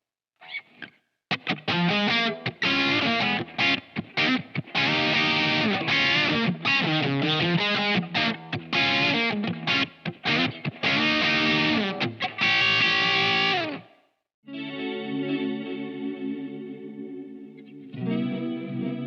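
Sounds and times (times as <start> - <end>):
distorted electric guitar: 1.3 - 13.9, 14.5 - 19.0.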